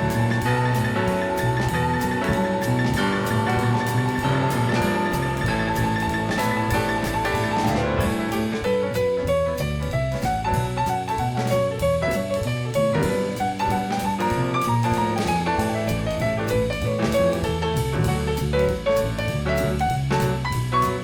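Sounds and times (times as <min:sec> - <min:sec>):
drum kit beat: 0:00.0 - 0:21.0
jazz piano: 0:00.0 - 0:21.0.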